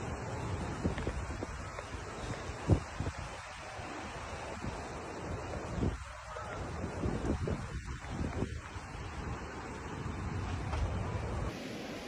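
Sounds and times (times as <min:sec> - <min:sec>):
wind buffeting microphone: 0:00.0 - 0:11.5
floodwater rushing: 0:00.0 - 0:12.0.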